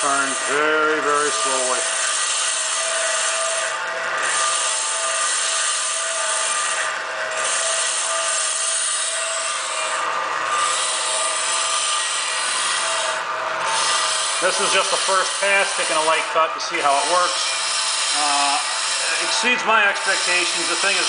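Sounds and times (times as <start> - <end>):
cutting tool scraping metal: 0.0 - 21.0
motor and gearbox whine: 0.0 - 21.0.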